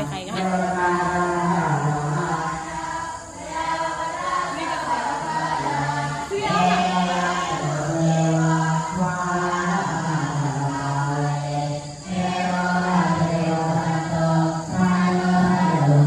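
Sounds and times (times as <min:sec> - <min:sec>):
monks chanting in unison: 0:00.0 - 0:16.0.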